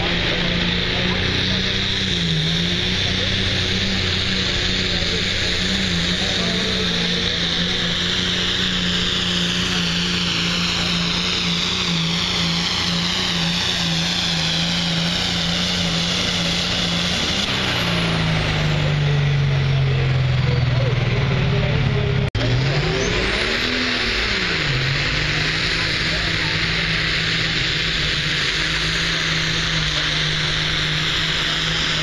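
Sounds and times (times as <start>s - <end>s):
high whine: 0.0s - 32.0s
tractor engine running under load: 0.0s - 32.0s.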